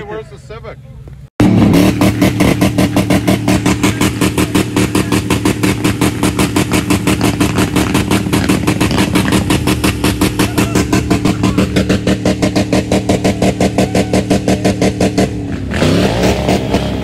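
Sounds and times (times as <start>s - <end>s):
engine pulsing on rev limiter: 1.4s - 17.0s.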